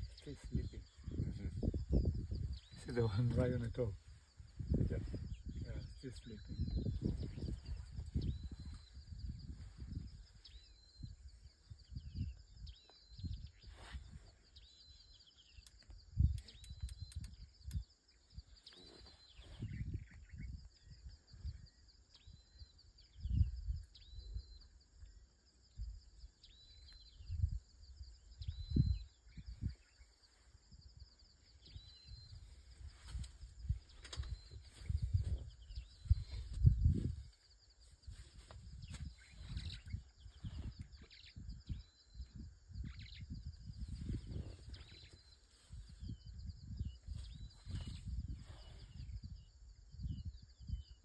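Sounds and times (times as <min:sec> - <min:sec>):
wind buffeting microphone: 0:00.0 - 0:24.8, 0:25.7 - 0:51.0.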